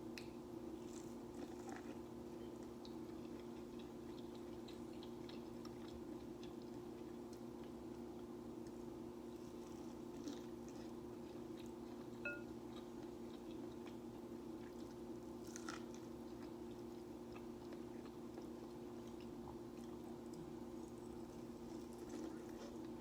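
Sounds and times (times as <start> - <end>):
person chewing: 0.2 - 23.0.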